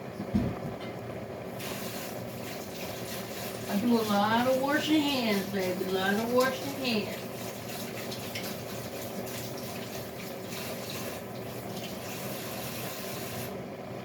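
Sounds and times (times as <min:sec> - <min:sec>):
faucet running into sink: 0:01.6 - 0:13.5
hands washed under water: 0:01.6 - 0:13.5.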